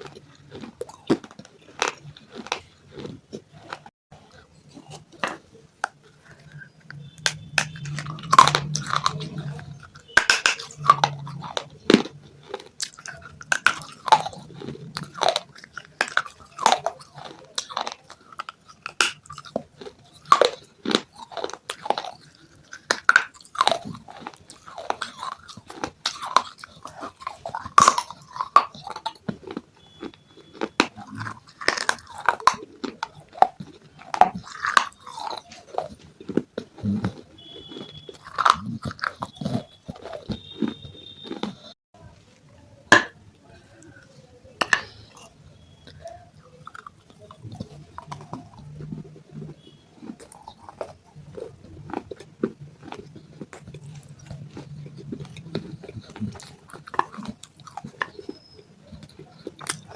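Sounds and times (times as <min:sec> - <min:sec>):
crunching and chewing pot pieces: 0:00.0 - 0:59.9.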